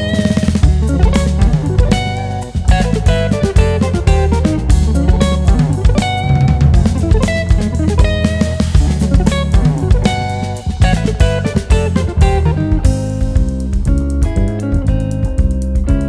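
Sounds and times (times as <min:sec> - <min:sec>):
busy drum strokes: 0:00.0 - 0:16.0
electric guitar lead: 0:00.0 - 0:16.0
jazz trio playing: 0:00.0 - 0:16.0.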